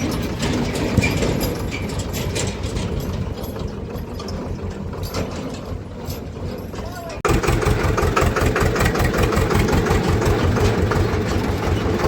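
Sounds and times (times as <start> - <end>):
clicking and rattling: 0.0 - 12.0
tractor engine rumbling: 0.0 - 12.0.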